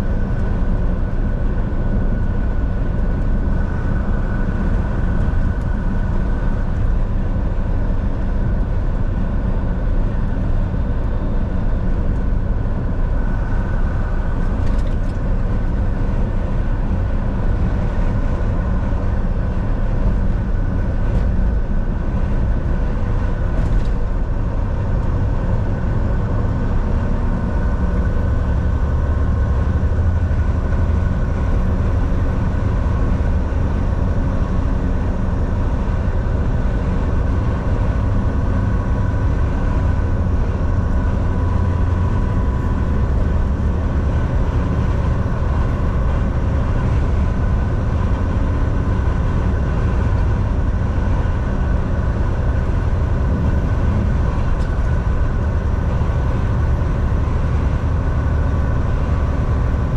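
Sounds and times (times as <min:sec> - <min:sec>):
truck engine and tyre rumble: 0:00.0 - 0:59.9.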